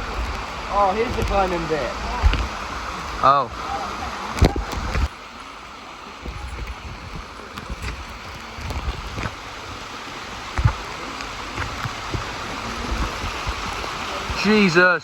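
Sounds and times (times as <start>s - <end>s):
waterfall and stream rushing: 0.0s - 15.0s.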